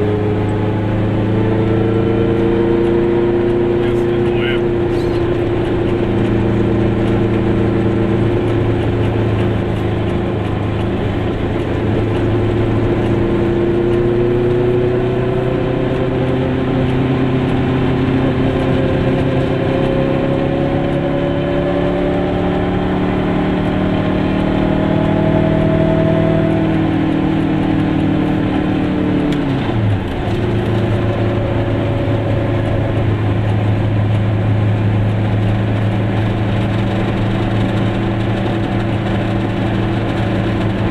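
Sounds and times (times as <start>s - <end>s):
small two-stroke car engine running: 0.0s - 40.9s.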